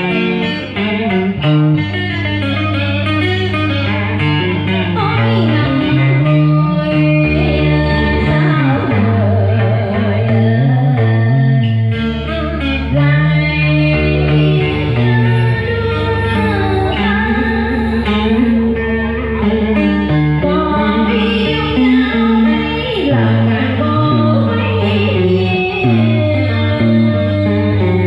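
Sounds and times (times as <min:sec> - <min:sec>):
guitar melody with bent notes: 0:00.0 - 0:28.0
person singing: 0:00.0 - 0:28.0.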